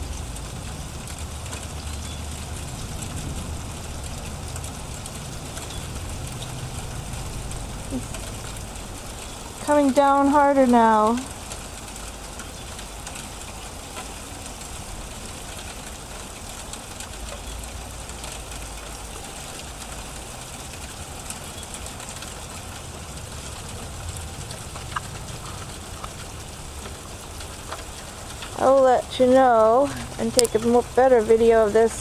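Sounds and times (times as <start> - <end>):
hail pattering: 0.0 - 32.0
low steady rumble: 0.0 - 32.0.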